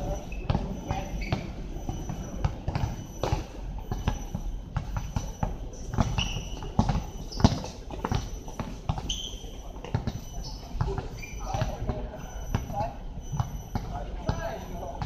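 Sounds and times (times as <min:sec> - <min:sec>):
basketball bouncing on court: 0:00.0 - 0:15.0.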